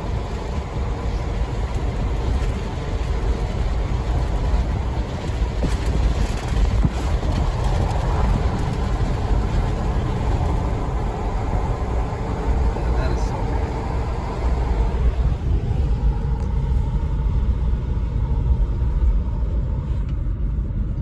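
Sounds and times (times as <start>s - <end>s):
car tyre and engine rumble: 0.0s - 21.0s.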